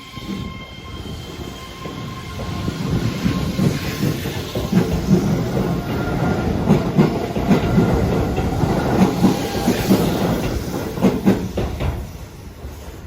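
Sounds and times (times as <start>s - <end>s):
train rumble: 0.0s - 13.0s
train wheels clacking over rail joints: 1.1s - 13.0s.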